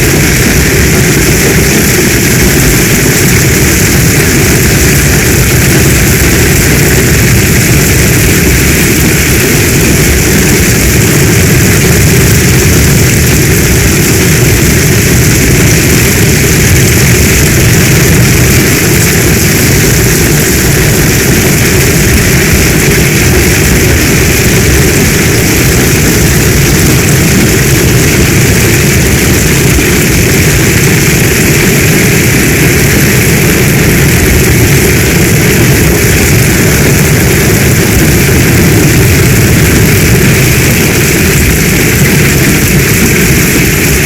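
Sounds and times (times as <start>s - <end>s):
deep rumble: 0.0s - 44.0s
heavy storm rain: 0.0s - 44.0s.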